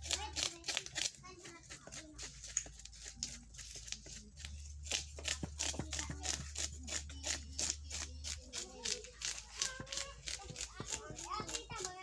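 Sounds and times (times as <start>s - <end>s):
knife scraping fish scales: 0.0s - 11.7s.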